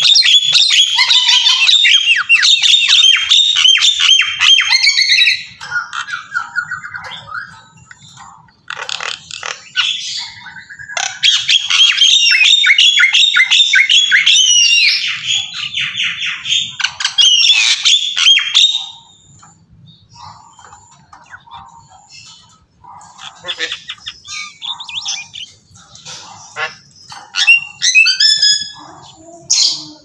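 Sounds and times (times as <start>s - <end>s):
bird chirping and squawking: 0.0s - 30.0s.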